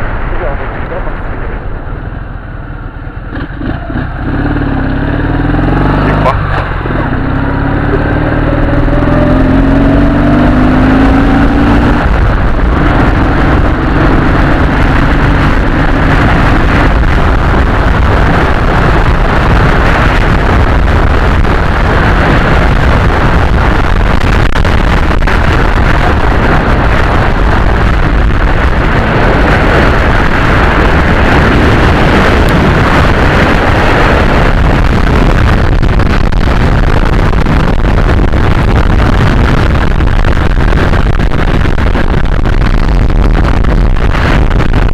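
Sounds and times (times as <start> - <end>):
wind noise rushing: 0.0 - 44.9
motorcycle engine revving: 1.4 - 44.7.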